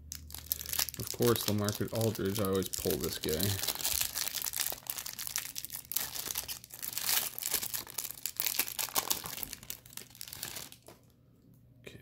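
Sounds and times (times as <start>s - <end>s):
plastic wrapper crinkling: 0.0s - 11.1s.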